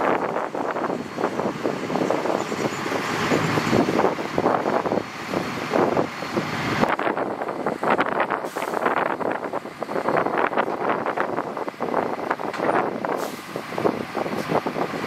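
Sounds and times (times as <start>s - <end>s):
heavy construction machinery rumble: 0.0s - 15.0s.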